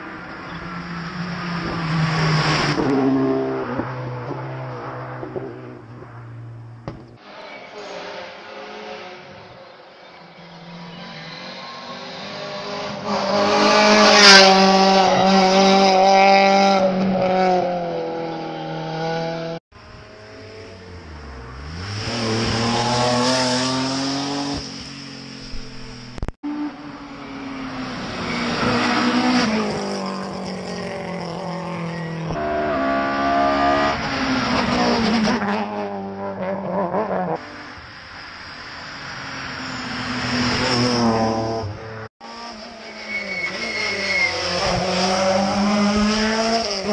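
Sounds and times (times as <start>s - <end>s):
rally car engine at full throttle: 0.0s - 46.9s.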